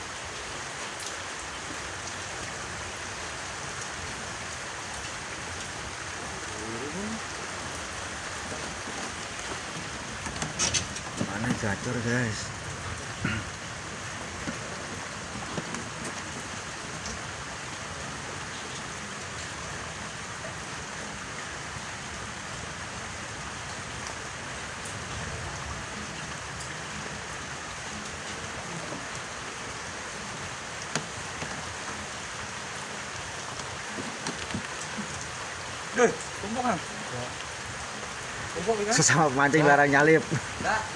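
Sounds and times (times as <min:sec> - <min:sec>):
rain on water and ground: 0:00.0 - 0:40.9.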